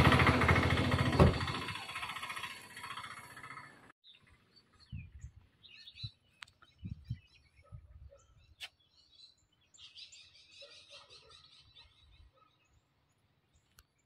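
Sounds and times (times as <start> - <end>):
faint birds chirping: 2.4 - 14.0.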